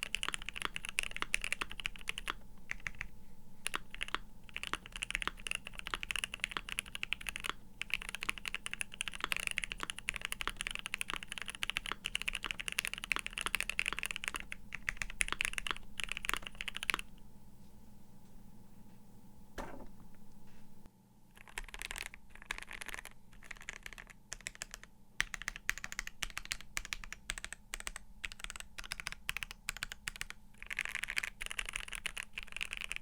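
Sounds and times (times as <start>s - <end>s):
mechanical keyboard typing: 0.0s - 17.1s, 21.4s - 33.0s.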